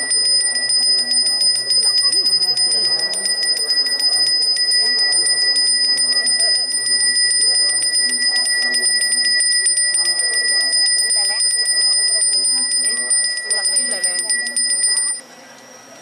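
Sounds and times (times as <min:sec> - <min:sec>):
faint voices: 0:00.0 - 0:16.0.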